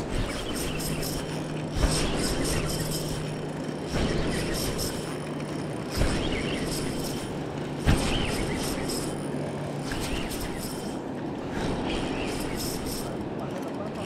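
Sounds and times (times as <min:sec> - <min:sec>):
reel gears whirring and clicking: 0:00.0 - 0:14.0.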